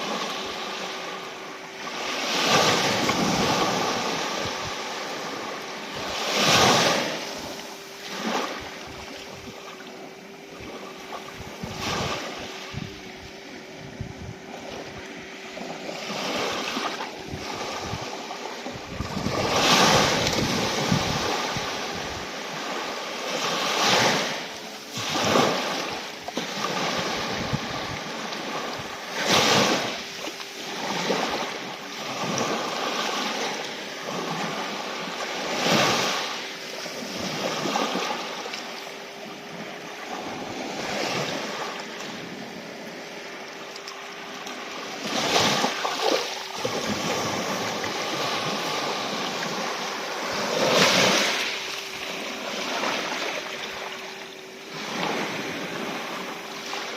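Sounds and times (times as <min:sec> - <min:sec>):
faint steady hum: 0:00.0 - 0:56.9
sea waves breaking: 0:00.0 - 0:56.9.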